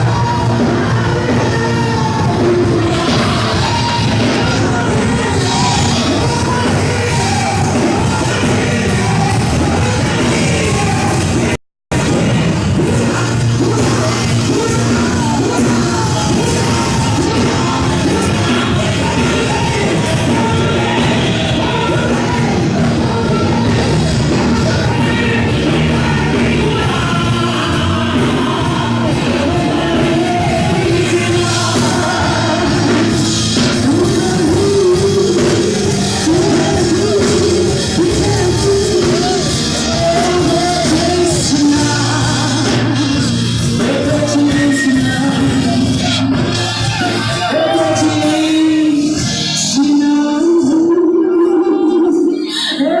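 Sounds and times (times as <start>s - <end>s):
band playing church music: 0.0s - 53.0s
voices singing: 0.0s - 53.0s.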